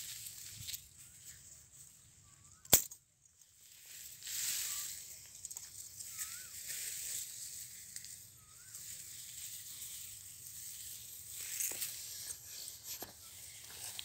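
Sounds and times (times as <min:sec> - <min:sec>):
dry stalks rustling: 0:00.0 - 0:14.0.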